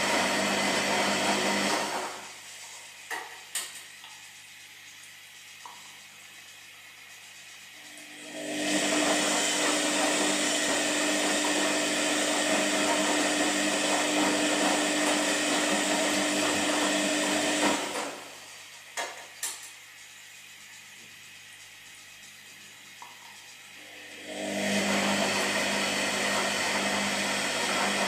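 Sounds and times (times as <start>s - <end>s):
washing machine motor humming: 0.0s - 28.0s.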